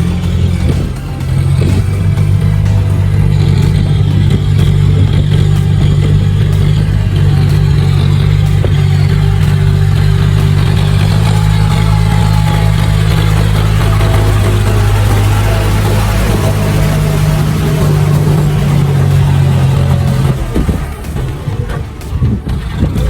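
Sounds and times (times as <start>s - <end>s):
tractor diesel engine droning: 0.0s - 23.0s.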